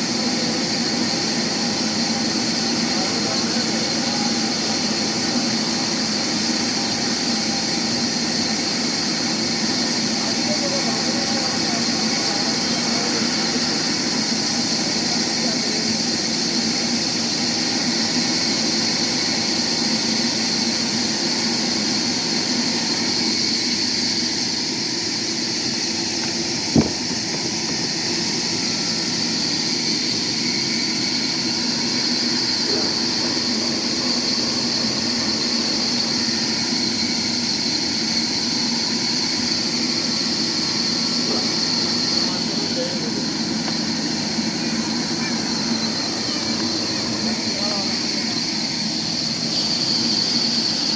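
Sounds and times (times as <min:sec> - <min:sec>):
sawmill machinery drone: 0:00.0 - 0:50.9.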